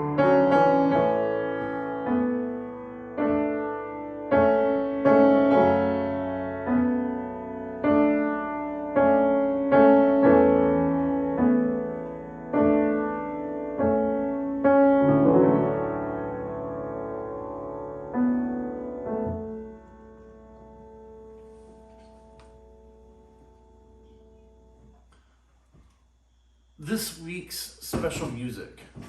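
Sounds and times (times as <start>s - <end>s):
slow gentle piano chords: 0.0s - 25.3s.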